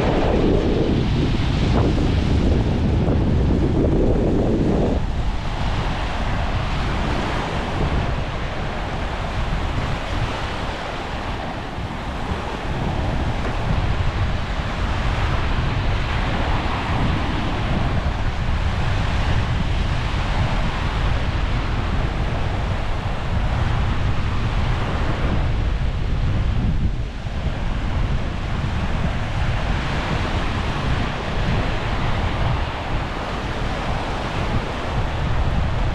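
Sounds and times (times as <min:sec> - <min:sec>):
sea waves on shore: 0:00.0 - 0:26.2, 0:27.1 - 0:35.9
wind buffeting microphone: 0:00.0 - 0:35.9.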